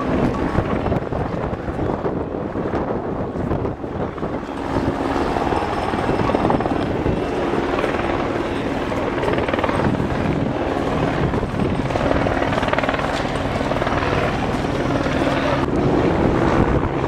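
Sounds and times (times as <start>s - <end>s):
helicopter rotor beat: 0.0s - 17.0s.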